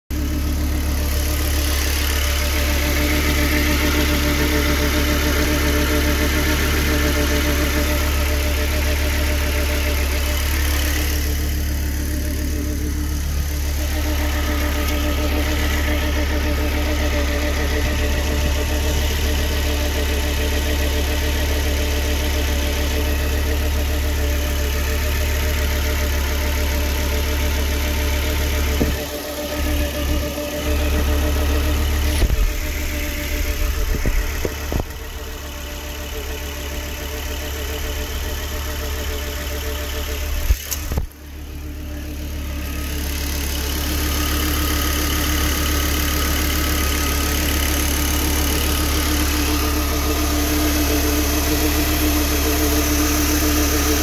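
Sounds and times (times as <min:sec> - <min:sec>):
car engine idling: 0:00.1 - 0:54.0.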